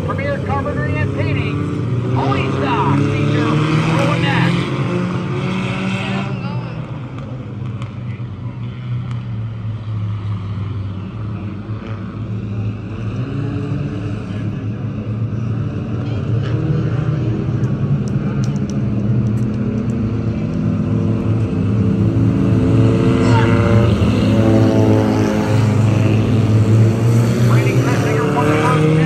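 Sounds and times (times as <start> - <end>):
race car engines droning: 0.0 - 29.0.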